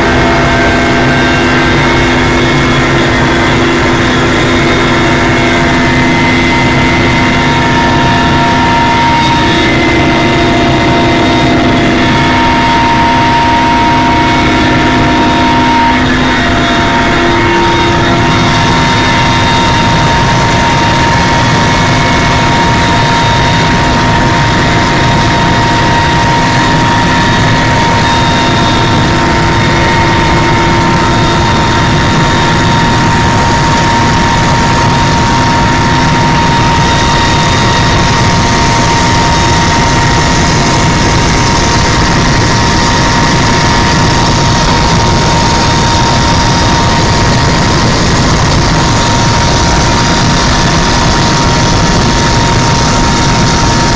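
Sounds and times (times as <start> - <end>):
helicopter engine and rotor noise: 0.0 - 53.9
high whine: 0.0 - 53.9.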